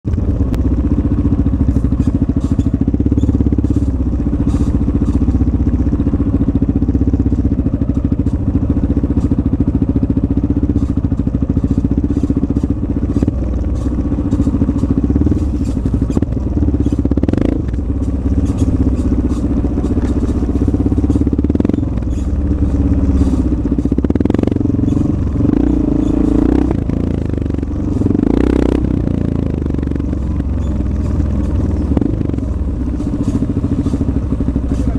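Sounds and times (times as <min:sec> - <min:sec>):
motorcycle engine at low speed: 0:00.0 - 0:34.9
motorcycle rattling over bumps: 0:00.0 - 0:34.9.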